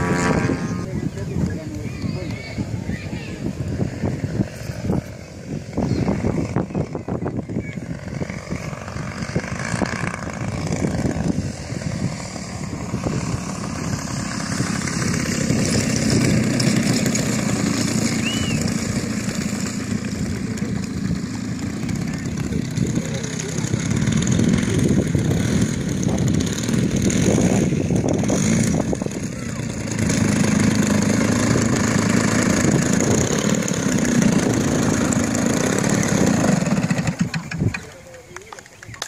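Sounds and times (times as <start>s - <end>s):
model plane engine running: 0.0s - 39.0s.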